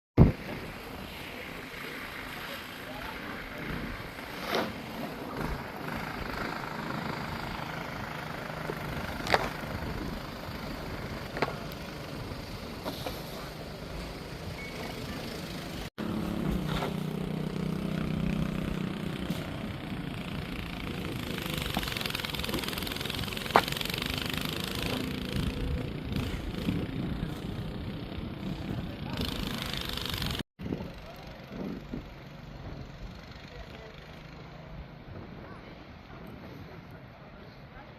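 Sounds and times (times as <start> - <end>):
noisy wash: 0.2 - 32.0
engine running: 0.2 - 36.9.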